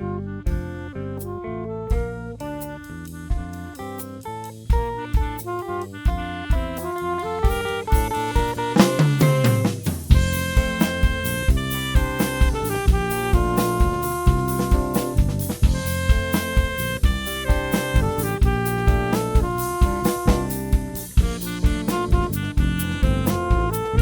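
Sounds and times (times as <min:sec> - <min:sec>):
bass: 0:00.0 - 0:24.0
saxophone melody: 0:00.0 - 0:24.0
drum kit: 0:00.5 - 0:24.0.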